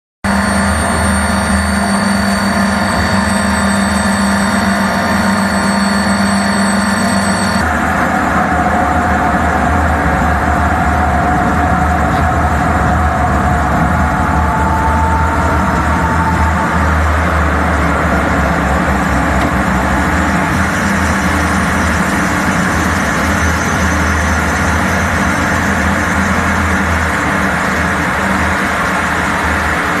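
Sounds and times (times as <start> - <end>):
jet engine running: 0.2 - 30.0.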